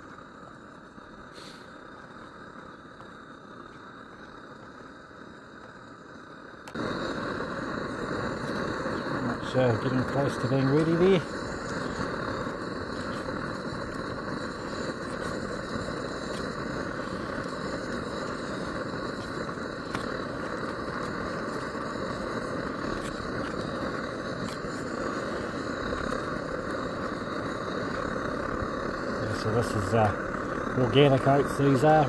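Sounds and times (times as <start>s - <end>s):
camping stove burning: 0.0s - 32.0s.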